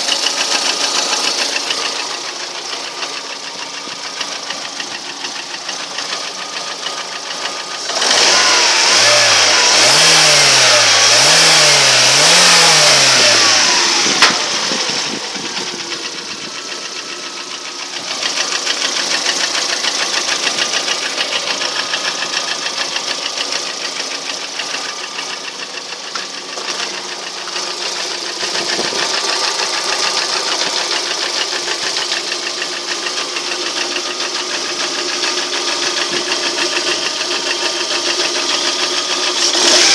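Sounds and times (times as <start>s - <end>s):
car engine running with knock: 0.0s - 39.9s
engine revving: 0.0s - 39.9s.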